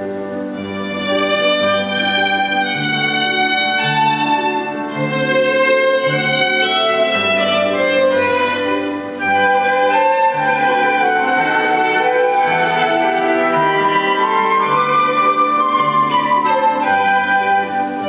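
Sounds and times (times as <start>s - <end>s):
low keyboard notes: 0.0s - 18.0s
violin melody: 0.0s - 18.0s.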